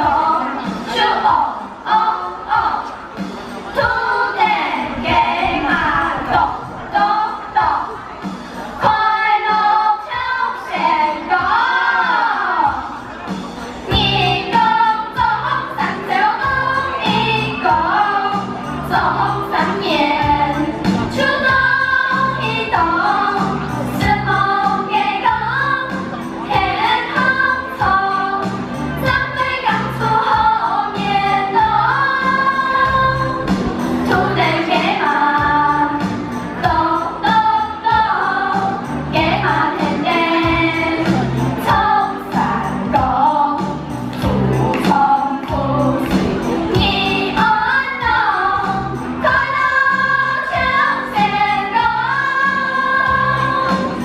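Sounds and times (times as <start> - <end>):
musical accompaniment: 0.0 - 54.0
people singing a children's song: 0.0 - 54.0.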